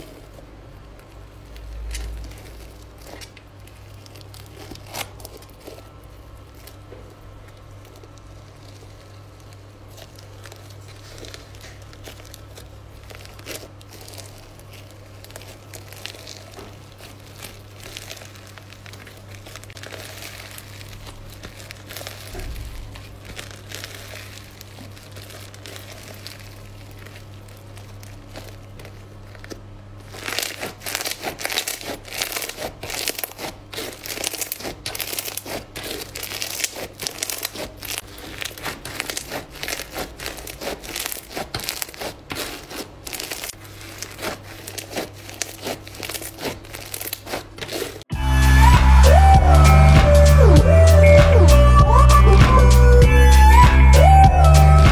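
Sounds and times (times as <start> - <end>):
slime crackling and popping: 0.0 - 54.9.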